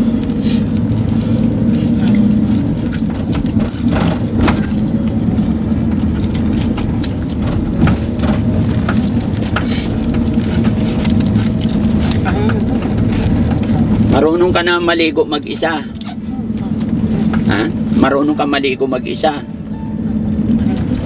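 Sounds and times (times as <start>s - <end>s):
van engine and road rumble: 0.0s - 21.0s.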